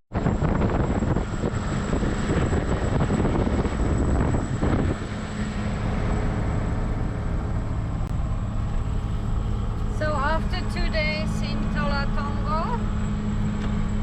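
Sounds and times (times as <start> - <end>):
road and wind noise: 0.1 - 14.0
truck engine drone: 0.1 - 14.0.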